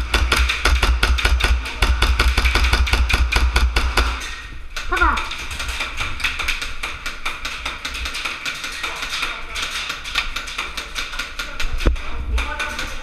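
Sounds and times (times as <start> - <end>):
airsoft guns firing clicks: 0.0 - 13.0.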